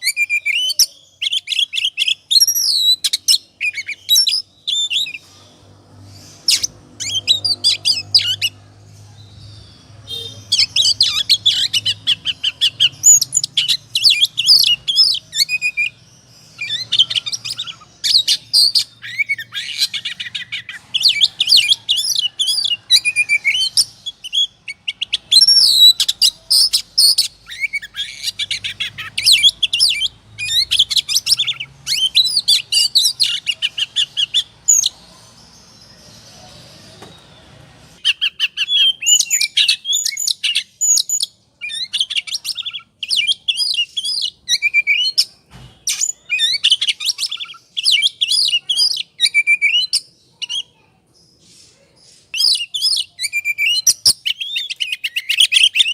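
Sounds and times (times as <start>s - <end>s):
bird singing whistles and chatter: 0.0s - 8.6s, 9.8s - 35.0s, 35.8s - 50.8s, 51.4s - 55.9s.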